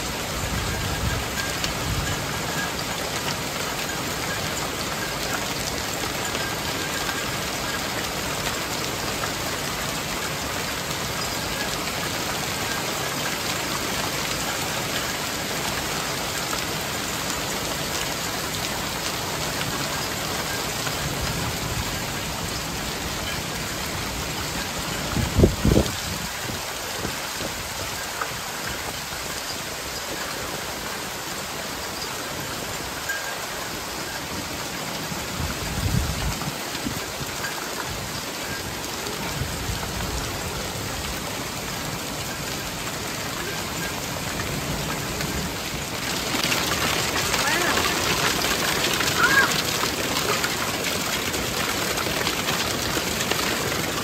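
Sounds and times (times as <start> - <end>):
hail and rain pattering on grass: 0.0 - 54.0.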